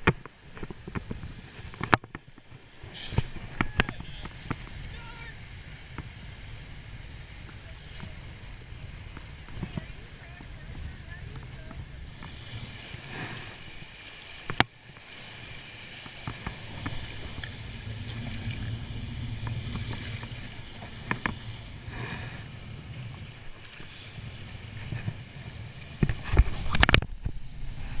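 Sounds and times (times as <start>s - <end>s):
shallow surf washing: 0.0s - 28.0s
water sloshing around wader: 0.2s - 28.0s.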